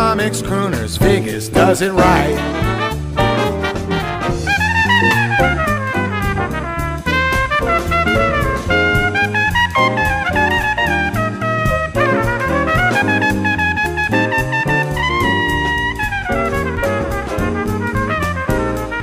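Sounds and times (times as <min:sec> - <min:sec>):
steady drum beat: 0:00.0 - 0:19.0
horns playing a melody: 0:01.6 - 0:19.0.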